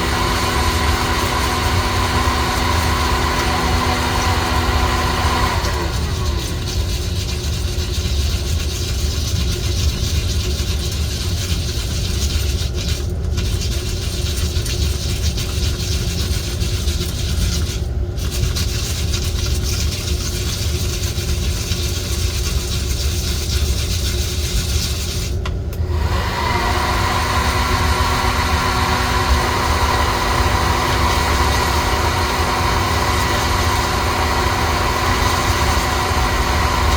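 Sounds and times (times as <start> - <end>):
coffee beans tumbling in drum: 0.0 - 25.4, 27.2 - 36.9
roaster motor low rumble: 0.0 - 36.9.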